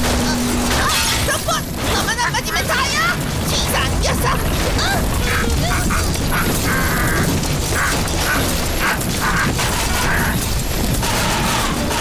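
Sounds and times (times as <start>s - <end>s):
low rumble of explosions: 0.0s - 12.0s.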